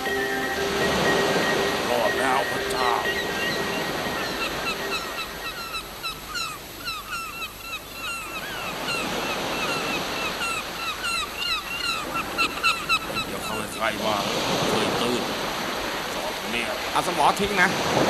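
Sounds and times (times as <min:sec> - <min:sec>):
seabirds squawking: 0:00.0 - 0:18.0
surf washing: 0:00.0 - 0:18.0.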